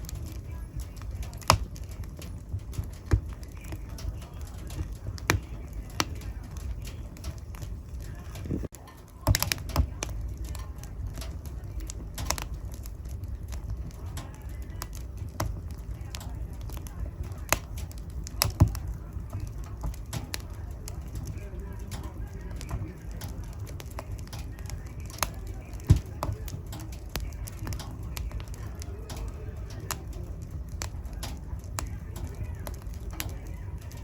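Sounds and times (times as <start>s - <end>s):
fire crackling and popping: 0.0s - 34.0s
low rumble of burning: 0.0s - 34.0s.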